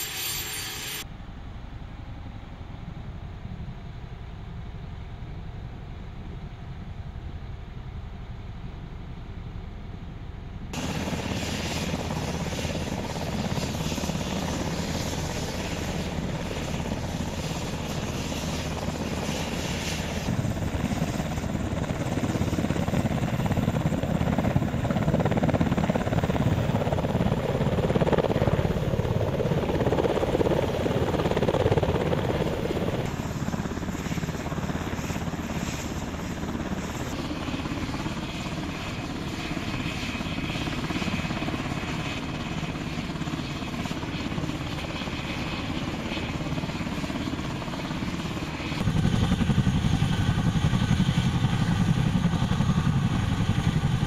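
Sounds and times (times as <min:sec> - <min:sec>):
helicopter rotors and turbines: 0:00.0 - 0:54.0.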